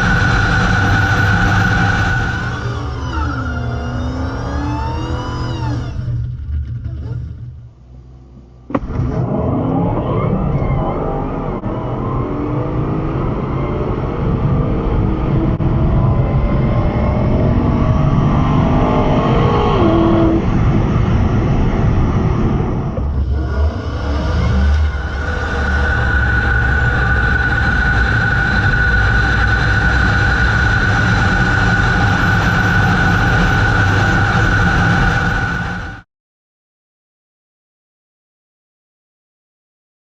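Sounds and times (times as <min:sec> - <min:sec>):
low engine rumble: 0:00.0 - 0:12.2, 0:14.2 - 0:36.0
drag racing car engines: 0:00.0 - 0:36.0
high engine whine: 0:00.0 - 0:36.1.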